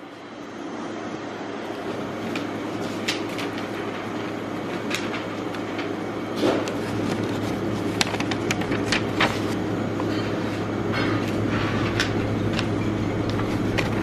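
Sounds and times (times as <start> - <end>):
low mechanical hum: 0.0 - 14.0
paper menu crinkling: 1.8 - 14.0.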